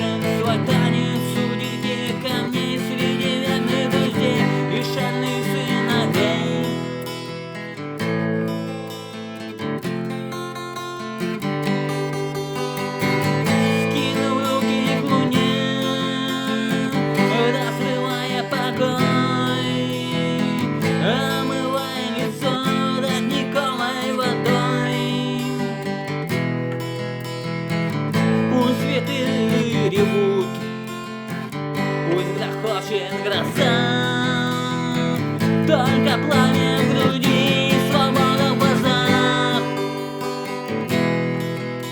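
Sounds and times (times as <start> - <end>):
strummed acoustic guitar music: 0.0 - 41.9.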